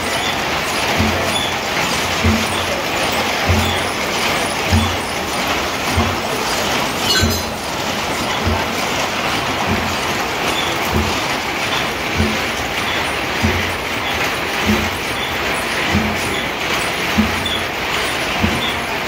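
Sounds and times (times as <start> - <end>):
weaving loom clattering: 0.0 - 19.0.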